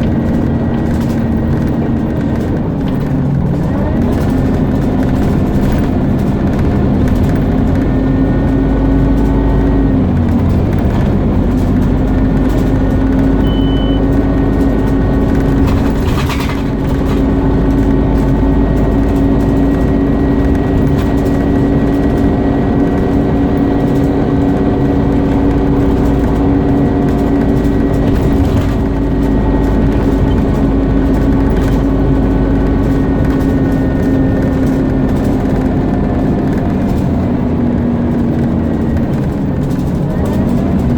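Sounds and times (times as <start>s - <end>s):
bus engine whine: 0.0s - 40.9s.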